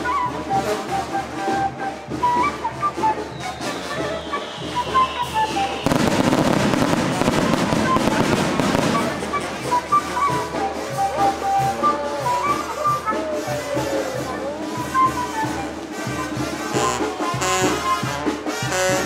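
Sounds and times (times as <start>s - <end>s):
band music: 0.0s - 19.0s
firecrackers crackling: 2.8s - 19.0s.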